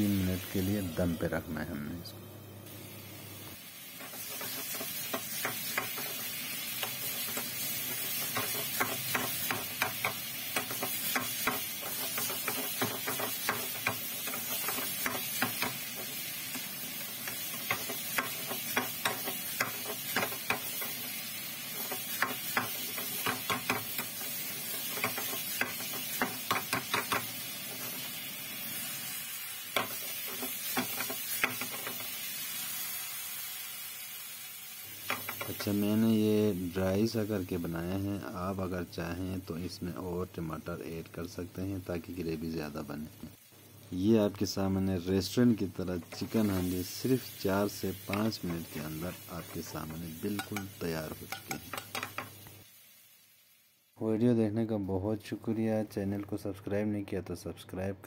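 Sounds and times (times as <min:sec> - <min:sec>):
food sizzling in a frying pan: 0:00.0 - 0:56.3.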